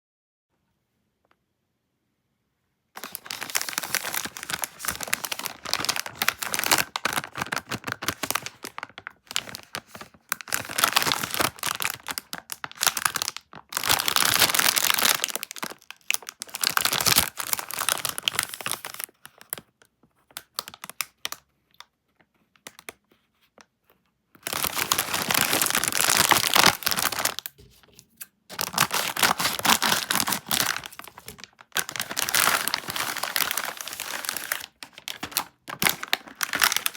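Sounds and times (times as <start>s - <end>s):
plastic packaging crinkling: 3.0s - 21.4s, 24.4s - 36.9s.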